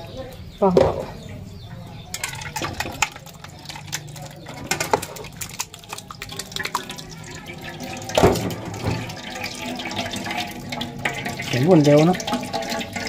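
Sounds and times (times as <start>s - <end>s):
water pouring through a strainer: 2.1s - 13.0s
water splashing and dripping: 2.1s - 13.0s.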